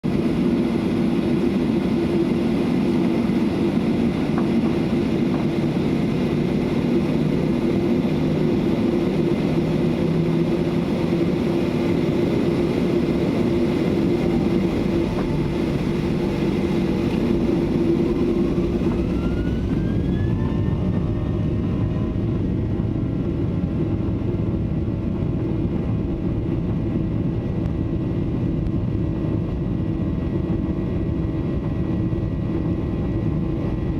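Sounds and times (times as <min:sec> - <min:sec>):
jet engines roaring: 0:00.0 - 0:33.9
rising engine whine: 0:00.1 - 0:33.9.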